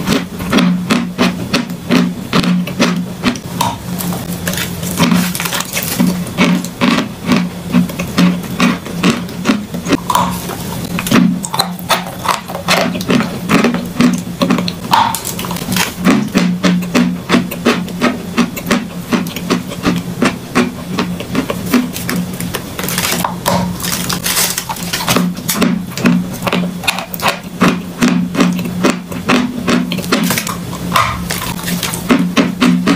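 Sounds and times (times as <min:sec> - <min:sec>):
chewing crisp crunches: 0:00.1 - 0:32.9.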